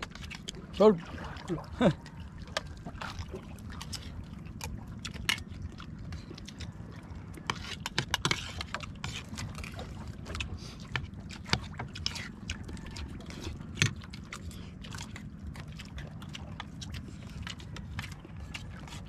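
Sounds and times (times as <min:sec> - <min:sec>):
water sloshing against boat: 0:00.0 - 0:19.0.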